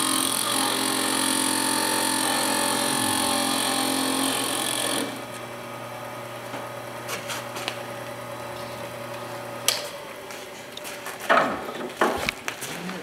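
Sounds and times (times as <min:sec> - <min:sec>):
wood lathe humming: 0:00.0 - 0:10.9.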